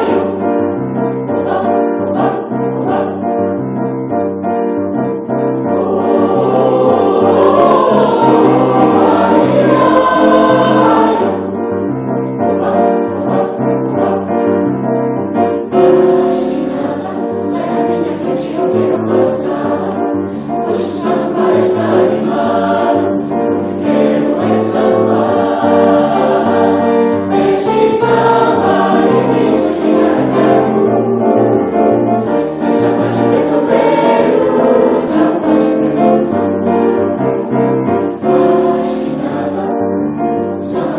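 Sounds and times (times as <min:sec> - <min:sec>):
choir singing: 0:00.0 - 0:04.2, 0:05.3 - 0:14.7, 0:15.6 - 0:40.9
piano accompaniment: 0:00.0 - 0:40.9.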